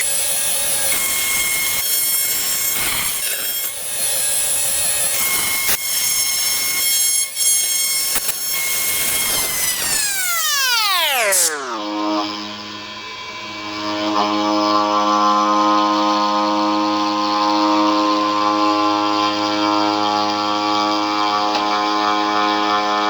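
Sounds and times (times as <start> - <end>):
router spindle whining: 0.0 - 23.0.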